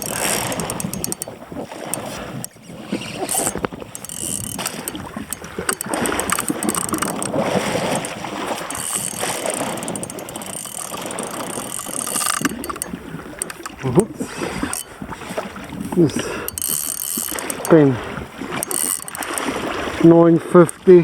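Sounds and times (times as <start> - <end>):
fishing reel clicking and grinding: 0.0 - 15.2, 15.8 - 21.0
water: 0.0 - 21.0
wind noise: 0.0 - 21.0.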